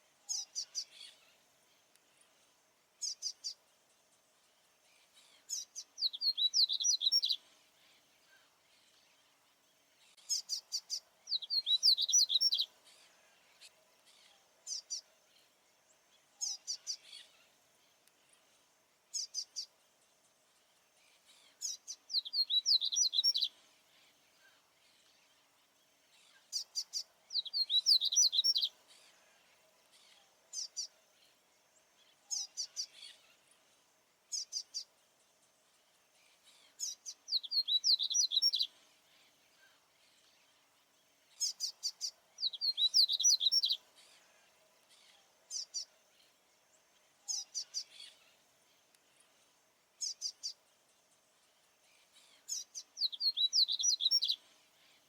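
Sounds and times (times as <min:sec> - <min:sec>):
seedeater twittering song: 0:00.2 - 0:55.0.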